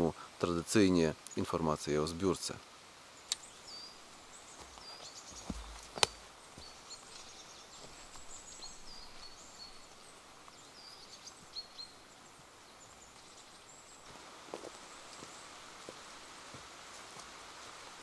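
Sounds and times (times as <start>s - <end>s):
faint forest hiss: 0.0s - 18.0s
songbirds chirping: 0.0s - 18.0s.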